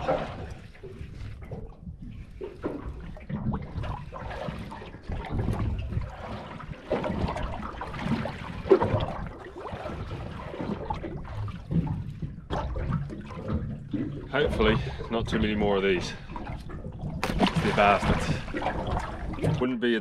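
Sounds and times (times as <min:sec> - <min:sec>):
water splashing against boat: 0:00.0 - 0:20.0.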